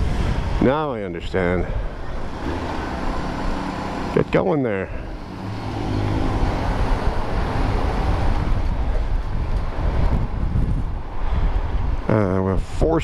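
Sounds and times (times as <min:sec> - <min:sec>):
wind over microphone: 0:00.0 - 0:03.7, 0:04.8 - 0:13.0.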